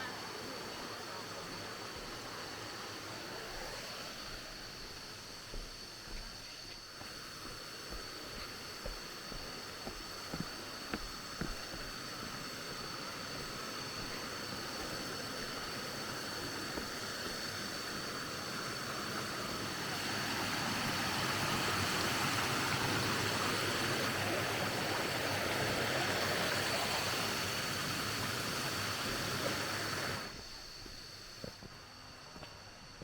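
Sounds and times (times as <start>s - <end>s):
rushing stream water: 0.0s - 30.4s
steady high-pitched whine: 0.0s - 33.0s.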